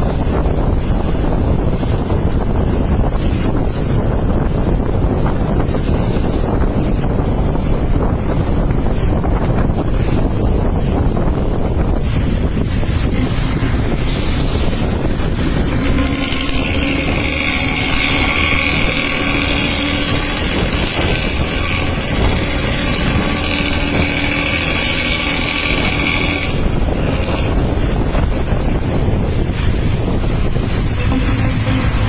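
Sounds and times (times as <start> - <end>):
bus engine and exhaust growling: 0.0 - 32.0
wind buffeting microphone: 0.0 - 32.0.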